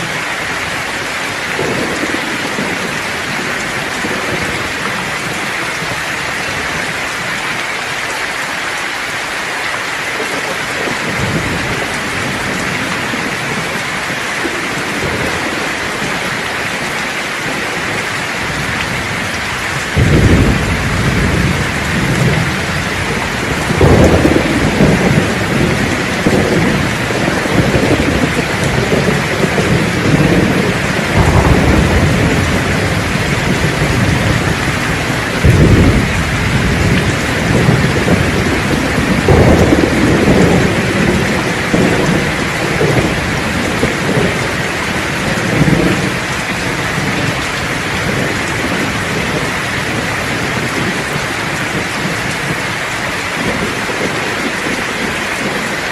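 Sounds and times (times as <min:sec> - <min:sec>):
thunder rumbling: 0:00.0 - 0:07.5, 0:10.1 - 0:55.9
heavy rain: 0:00.0 - 0:55.9.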